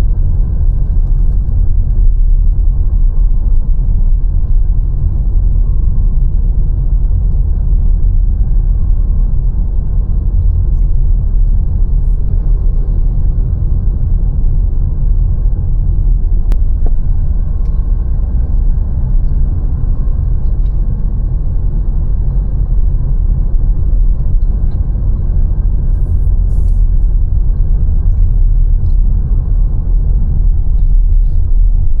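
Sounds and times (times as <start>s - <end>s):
city traffic: 0.0s - 32.0s
road noise: 0.0s - 32.0s
wind on microphone: 0.0s - 32.0s.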